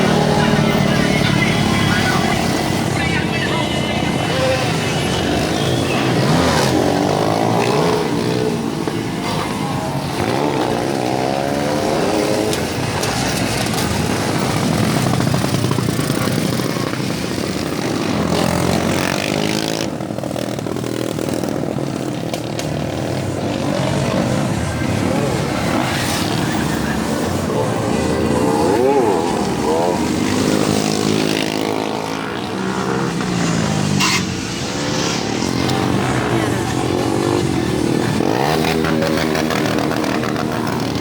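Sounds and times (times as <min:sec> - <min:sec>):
road noise: 0:00.0 - 0:41.0.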